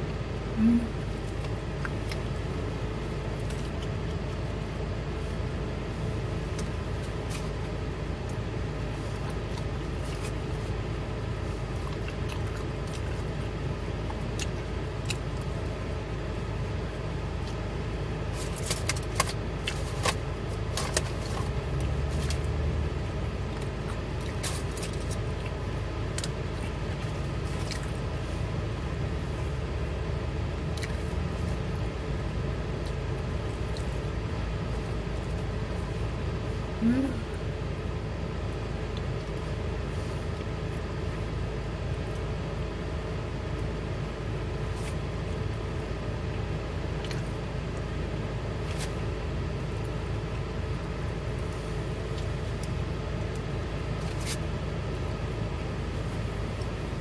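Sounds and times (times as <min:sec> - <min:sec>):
man eating and chewing: 0:00.0 - 0:57.0.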